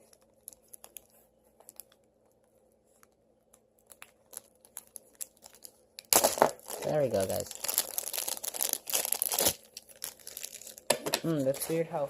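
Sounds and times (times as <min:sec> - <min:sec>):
packaging crinkling: 0:00.0 - 0:02.4, 0:03.8 - 0:11.8.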